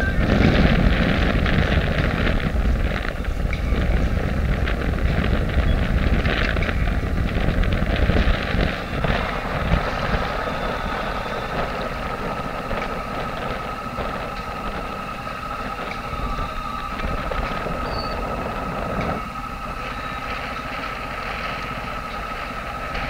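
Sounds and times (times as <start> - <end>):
boat engine running: 0.0 - 23.0
steady high whine: 0.0 - 23.0
wind buffeting microphone: 0.0 - 23.0.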